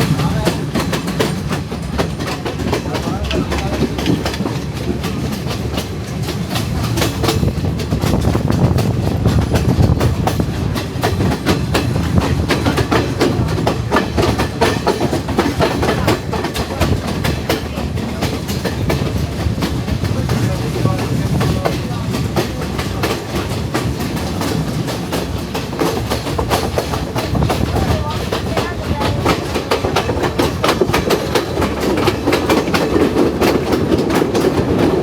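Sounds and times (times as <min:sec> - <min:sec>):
train rumble: 0:00.0 - 0:35.0
train wheels clicking on rails: 0:00.0 - 0:35.0.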